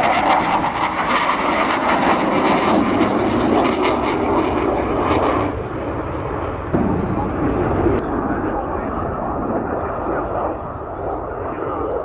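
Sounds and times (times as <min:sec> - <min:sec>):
fighter jet engines roaring: 0:00.0 - 0:12.0.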